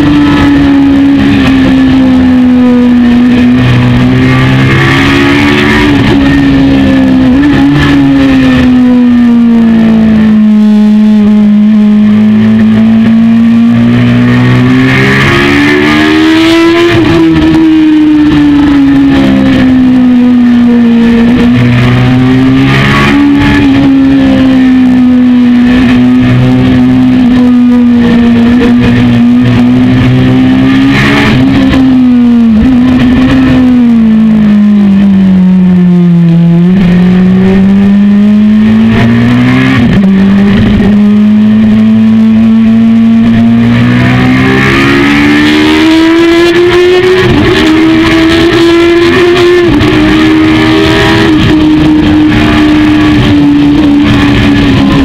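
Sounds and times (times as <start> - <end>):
motorcycle engine running at speed: 0.0 - 55.0.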